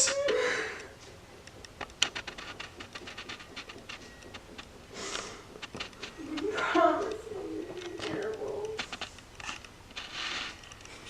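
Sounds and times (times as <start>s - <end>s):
faint clicks and ticks: 0.0s - 11.0s.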